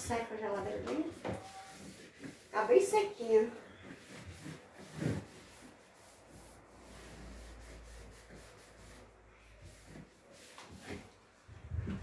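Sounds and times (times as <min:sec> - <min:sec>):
towel rubbing inside refrigerator: 0:00.0 - 0:12.0.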